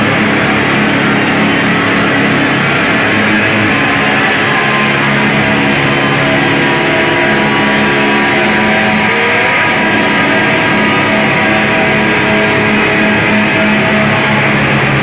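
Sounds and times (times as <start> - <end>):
noise drone music: 0.0 - 15.0.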